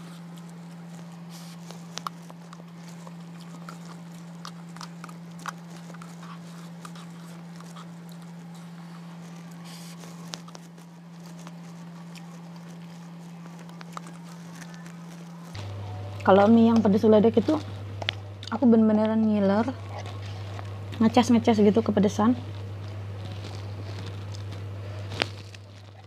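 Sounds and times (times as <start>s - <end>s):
chewing and slurping noodles: 0.0s - 26.0s.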